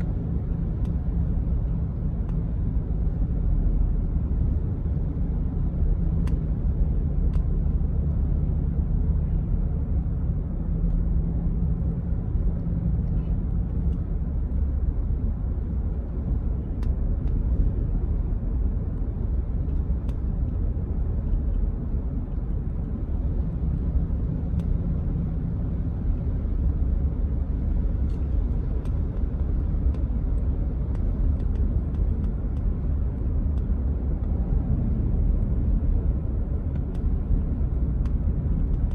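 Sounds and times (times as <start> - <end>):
car engine hum: 0.0 - 38.9
road rumble: 0.0 - 38.9.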